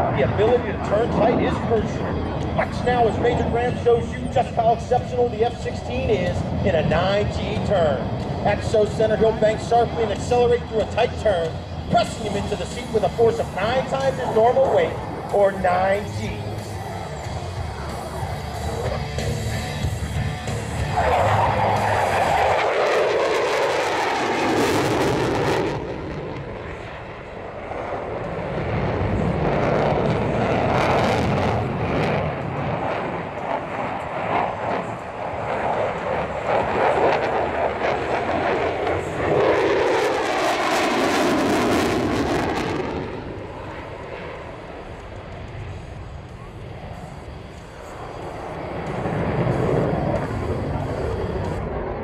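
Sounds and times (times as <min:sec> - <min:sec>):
fighter jet engine roar: 0:00.0 - 0:52.0.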